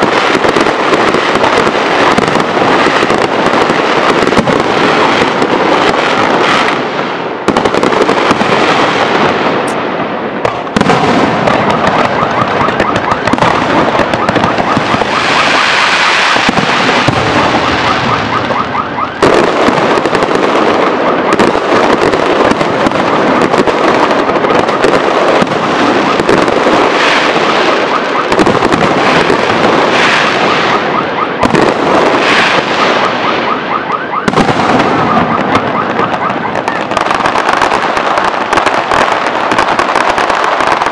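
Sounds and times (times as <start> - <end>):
fireworks bursting and crackling: 0.0 - 40.9
loud firework bangs: 0.0 - 40.9.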